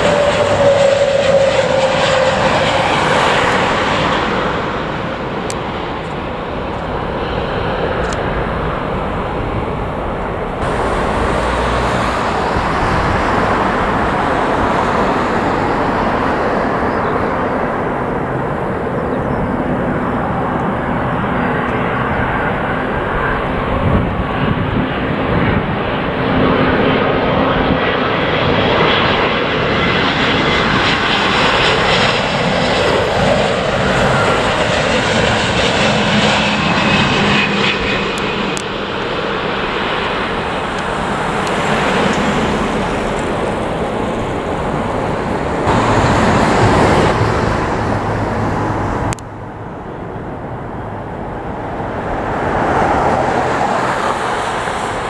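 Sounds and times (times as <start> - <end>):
jet engine high whine: 0.0 - 55.0
jet engines rushing: 0.0 - 55.0.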